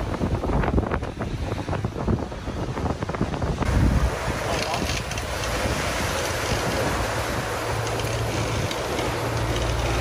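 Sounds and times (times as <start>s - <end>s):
water rushing past hulls: 0.0s - 10.0s
wind buffeting microphone: 0.0s - 10.0s.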